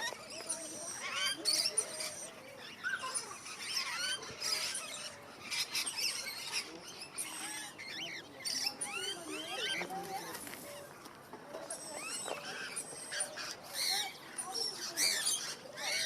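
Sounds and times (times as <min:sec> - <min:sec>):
many birds chirping and calling: 0:00.0 - 0:16.0.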